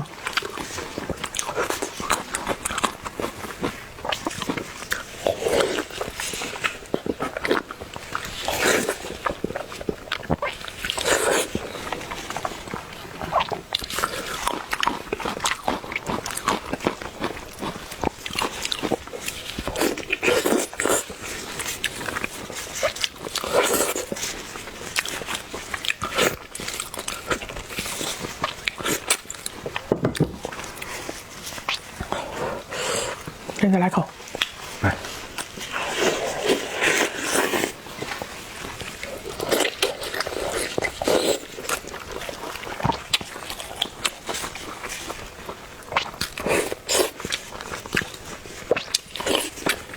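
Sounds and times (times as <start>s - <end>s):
chewing with wet mouth clicks: 0.0s - 33.6s, 34.2s - 49.9s.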